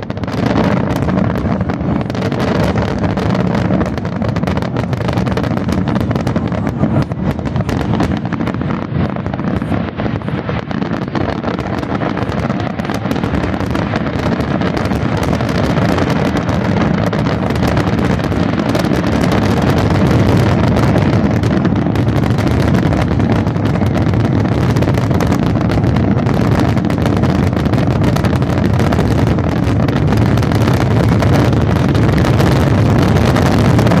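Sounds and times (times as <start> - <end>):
fireworks crackling: 0.0 - 34.0
wind rumble on microphone: 0.0 - 34.0.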